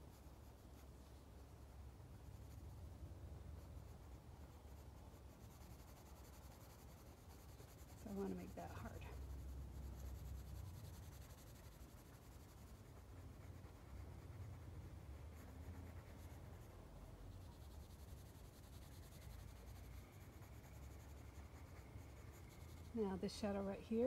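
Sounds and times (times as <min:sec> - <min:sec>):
pencil scratching on paper: 0:03.5 - 0:24.0.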